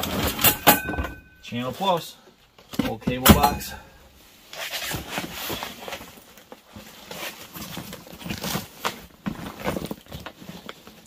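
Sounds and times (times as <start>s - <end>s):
items rustling: 0.0s - 11.0s.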